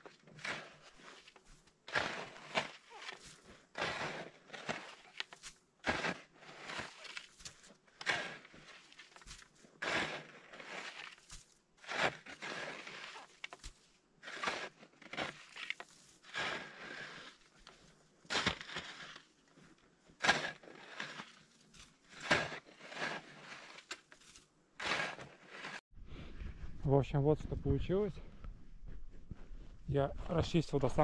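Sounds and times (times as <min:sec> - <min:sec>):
ski scraping deep snow: 0:00.0 - 0:26.8.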